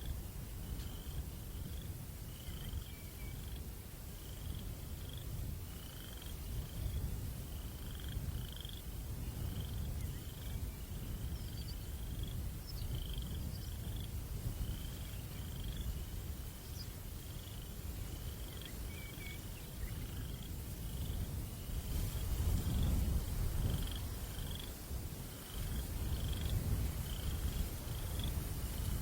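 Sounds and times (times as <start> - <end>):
crickets chirping: 0.0 - 29.0
low rumble of breeze: 0.0 - 29.0.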